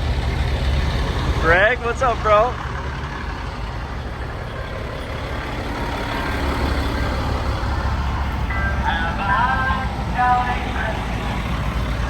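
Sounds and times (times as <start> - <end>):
car engines idling: 0.0 - 12.0.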